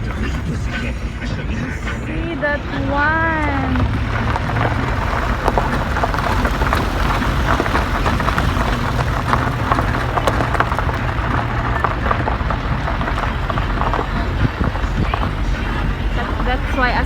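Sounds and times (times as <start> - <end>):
road noise: 0.0 - 17.0
vehicle engine hum: 0.0 - 17.0
small rattles: 3.0 - 17.0.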